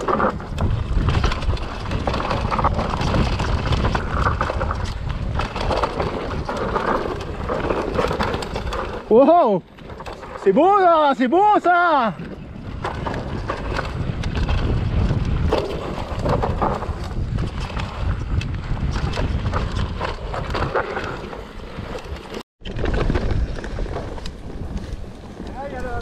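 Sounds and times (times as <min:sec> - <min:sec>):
bike rattling and knocking: 0:00.0 - 0:26.0
wind rushing over microphone: 0:00.0 - 0:26.0.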